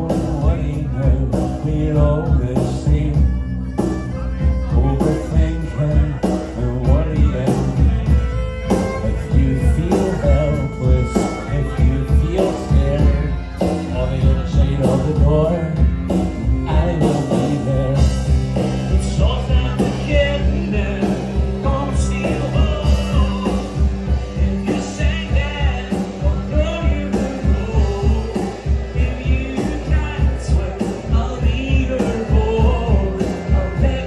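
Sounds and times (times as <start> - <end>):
live rock band playing: 0.0 - 34.0.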